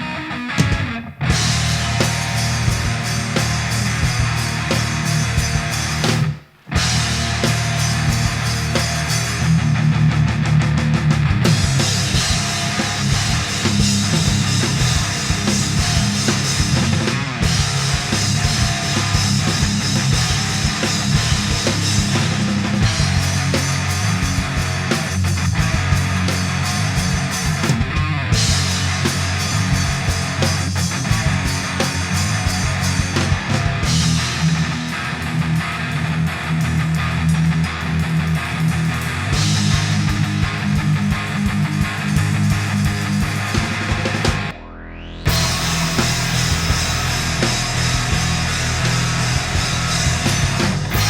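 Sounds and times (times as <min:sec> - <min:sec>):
bass guitar: 0:00.0 - 0:51.0
distorted electric guitars: 0:00.0 - 0:51.0
drum kit: 0:00.0 - 0:51.0.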